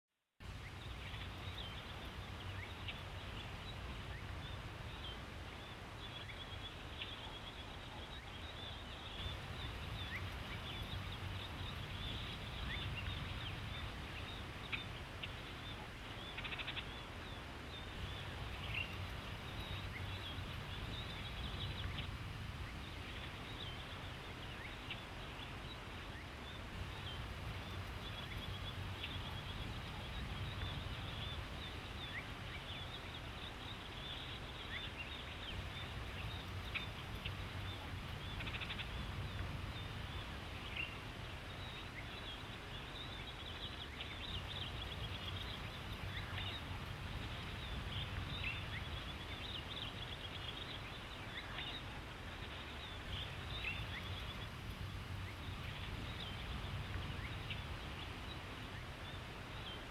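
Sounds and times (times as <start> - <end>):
low rumble and hiss: 0.4 - 59.9.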